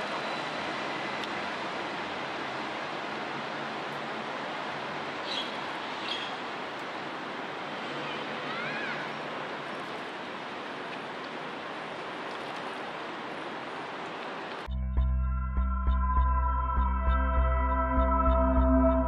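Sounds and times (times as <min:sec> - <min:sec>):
outdoor ambient rush: 0:00.0 - 0:19.0.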